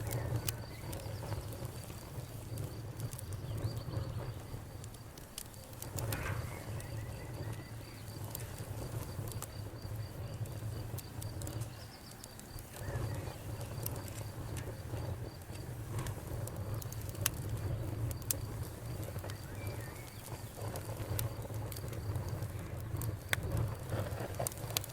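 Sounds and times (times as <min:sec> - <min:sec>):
campfire crackling: 0:00.0 - 0:24.9.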